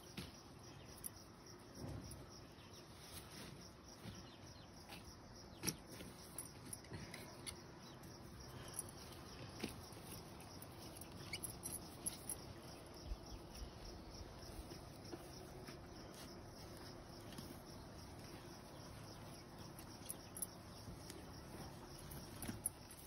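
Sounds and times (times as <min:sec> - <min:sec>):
faint insects: 0:00.0 - 0:23.0.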